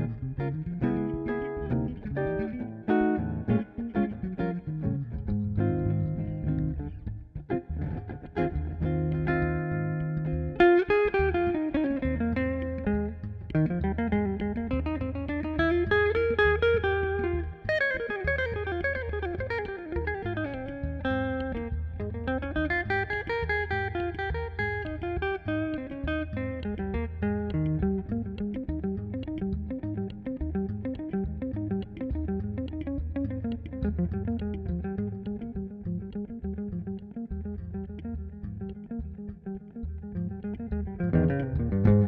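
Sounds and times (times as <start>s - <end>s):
electric bass notes: 0.0s - 42.0s.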